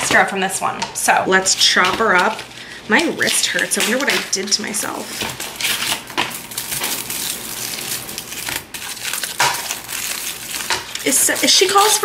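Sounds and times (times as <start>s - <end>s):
foil wrapper crinkling: 1.4s - 12.0s.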